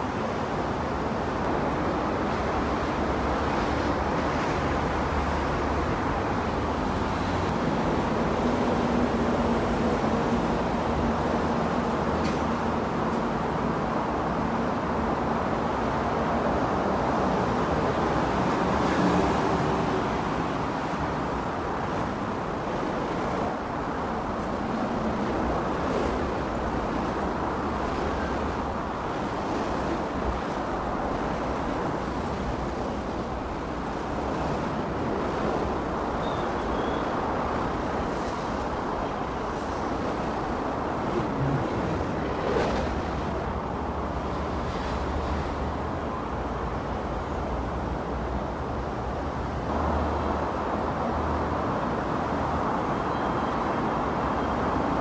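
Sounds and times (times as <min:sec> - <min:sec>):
road traffic hum: 0:00.0 - 0:55.0.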